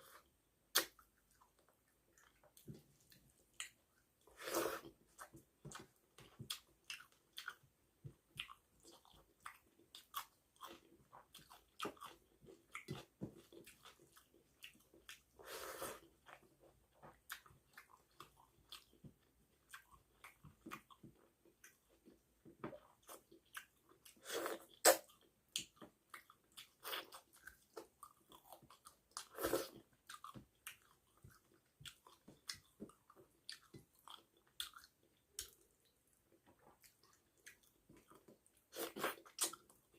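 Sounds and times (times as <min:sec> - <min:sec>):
person chewing with wet mouth smacks: 0:00.7 - 0:15.4, 0:19.6 - 0:39.9.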